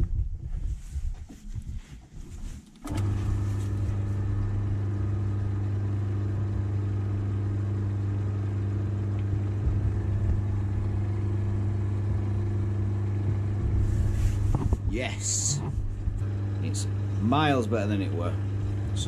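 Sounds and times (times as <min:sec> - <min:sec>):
lathe motor humming: 0:02.8 - 0:19.0.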